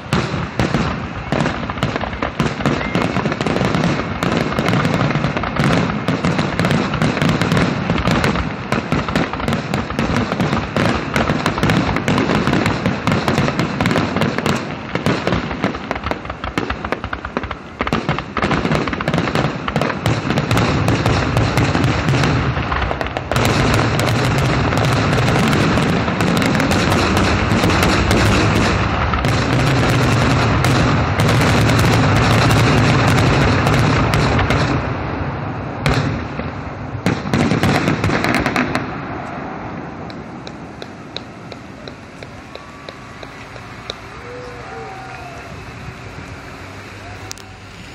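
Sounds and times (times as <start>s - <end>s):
fireworks shells bursting: 0.0s - 35.1s, 35.8s - 47.9s.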